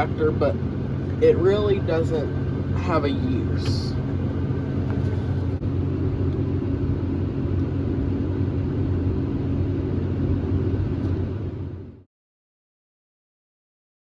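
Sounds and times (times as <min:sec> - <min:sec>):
combine harvester engine drone: 0:00.0 - 0:12.1.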